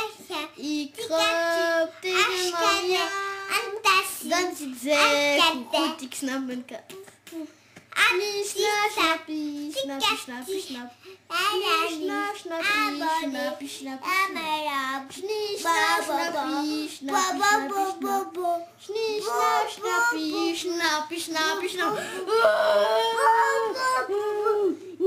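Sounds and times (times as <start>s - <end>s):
young child singing: 0.0s - 6.1s, 6.9s - 22.1s.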